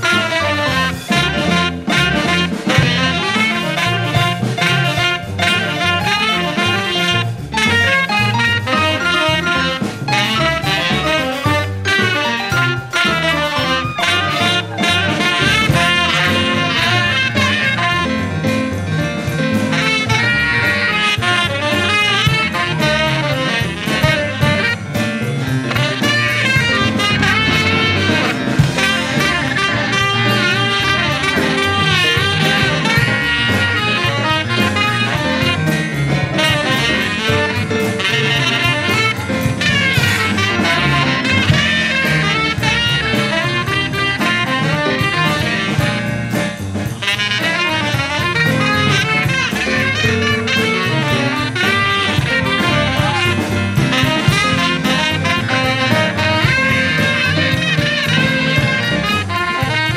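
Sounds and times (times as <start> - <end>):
drum kit: 0.0 - 59.9
keyboard: 0.0 - 59.9
saxophone melody: 0.0 - 59.9
walking double bass: 0.0 - 59.9.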